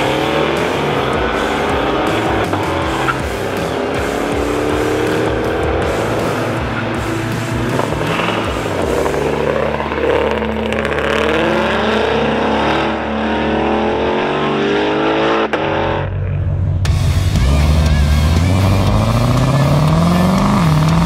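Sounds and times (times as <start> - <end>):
car engine droning: 0.0 - 21.0
cars accelerating away: 0.0 - 21.0.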